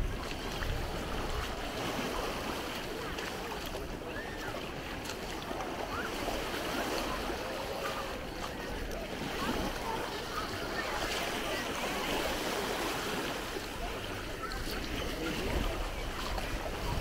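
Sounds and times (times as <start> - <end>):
distant crowd voices: 0.0 - 17.0
small waves lapping: 0.0 - 17.0
water splashing around feet: 0.0 - 17.0
wind: 0.0 - 17.0
children calling: 1.9 - 17.0.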